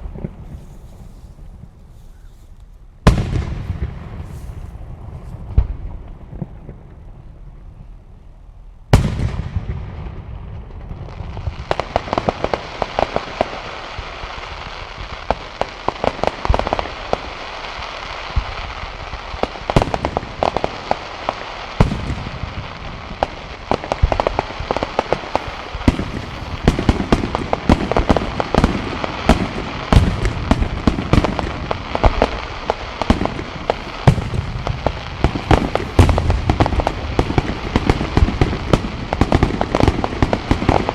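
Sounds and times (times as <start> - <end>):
fireworks crackling and popping: 0.0 - 7.4, 9.0 - 40.9
fireworks booming: 3.0 - 7.0, 8.9 - 40.9.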